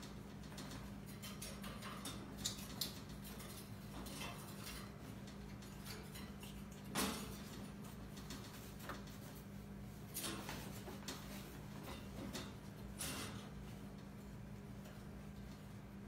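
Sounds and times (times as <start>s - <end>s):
claws rattling on wire cage: 0.0s - 14.2s.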